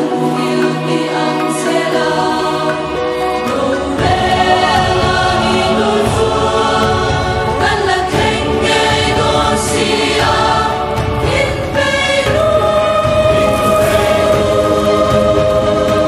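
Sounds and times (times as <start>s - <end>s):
choir singing slow song: 0.0s - 16.0s.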